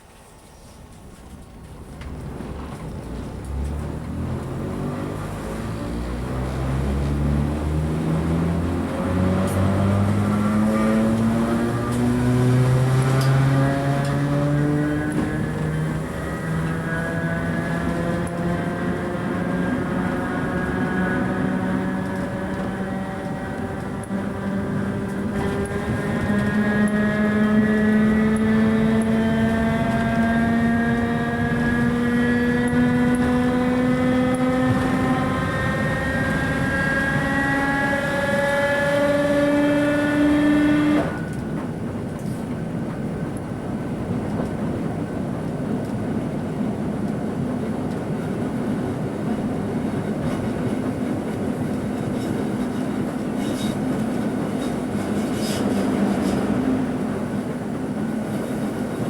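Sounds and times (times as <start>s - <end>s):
train rumbling along rails: 0.0s - 59.0s.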